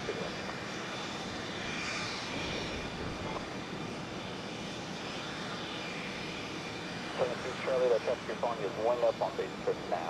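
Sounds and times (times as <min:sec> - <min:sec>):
jet engines rushing with whine: 0:00.0 - 0:10.0.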